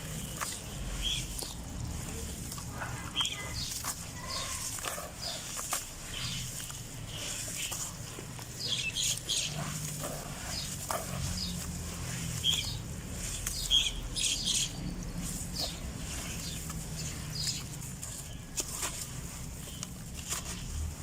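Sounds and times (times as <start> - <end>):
birds chirping: 0.0 - 20.8.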